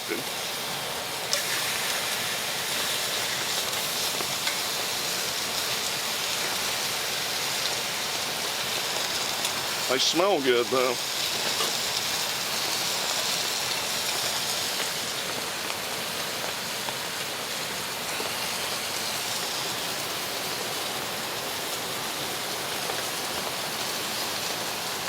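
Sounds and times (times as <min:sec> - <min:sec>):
steaks sizzling in a pan: 0:00.0 - 0:25.0.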